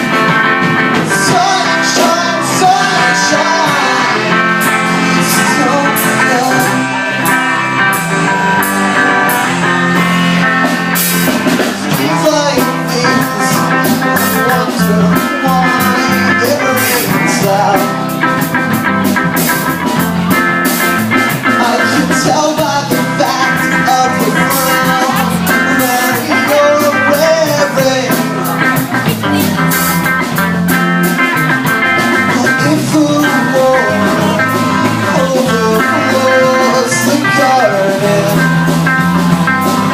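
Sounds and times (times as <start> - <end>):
rock band with steady beat: 0.0 - 39.9
rock guitar playing: 0.0 - 39.9.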